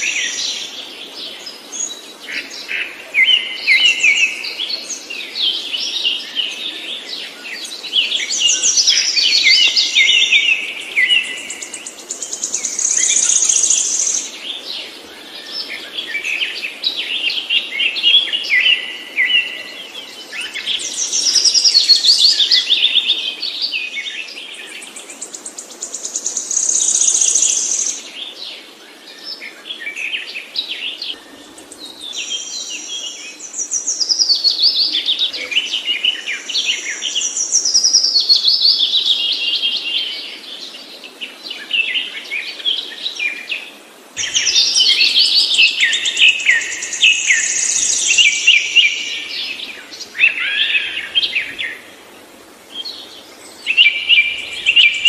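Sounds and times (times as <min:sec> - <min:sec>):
songbird singing trills: 0:00.0 - 0:28.5, 0:29.1 - 0:43.6, 0:44.2 - 0:55.0.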